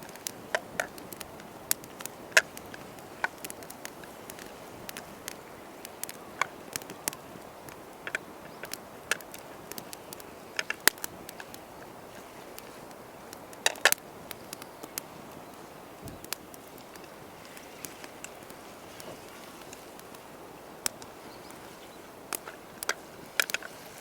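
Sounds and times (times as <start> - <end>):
campfire crackling and popping: 0.0 - 24.0
fire hissing: 0.0 - 24.0.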